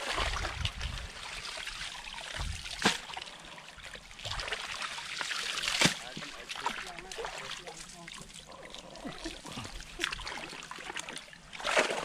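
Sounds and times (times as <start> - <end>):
water trickling and sloshing: 0.0 - 12.0.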